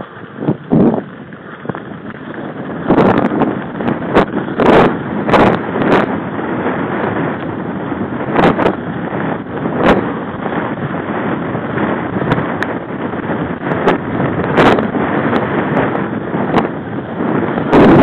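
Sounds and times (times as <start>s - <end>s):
bike knocking and clattering: 0.0s - 18.0s
tyres on dirt: 0.0s - 18.0s
wind on microphone: 0.0s - 18.0s.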